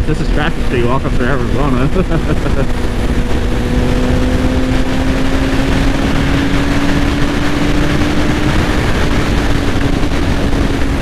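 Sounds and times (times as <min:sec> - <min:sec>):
heavy wind noise: 0:00.0 - 0:11.0
motorcycle engine cruising hum: 0:00.0 - 0:11.0.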